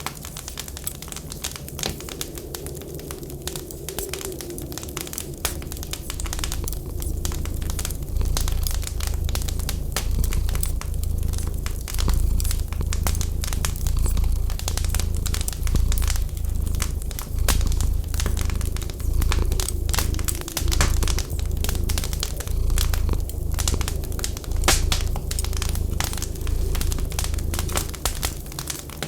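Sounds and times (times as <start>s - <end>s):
wood fire crackling: 0.0s - 29.0s
cat purring: 2.0s - 29.0s.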